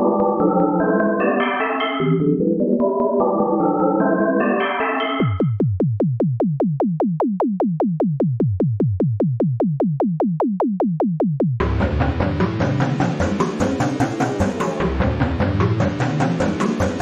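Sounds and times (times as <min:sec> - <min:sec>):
electronic synth music: 0:00.0 - 0:17.0.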